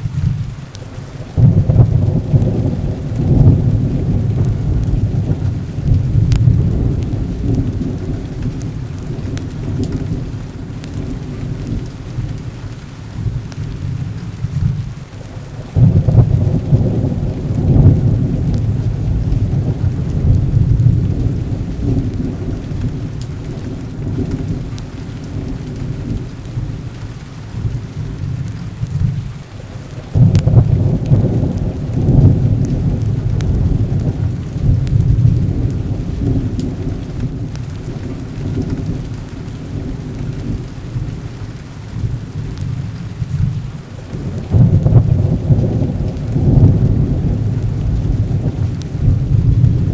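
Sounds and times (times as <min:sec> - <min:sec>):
heavy rain: 0:00.0 - 0:49.9
rolling thunder: 0:00.0 - 0:49.9.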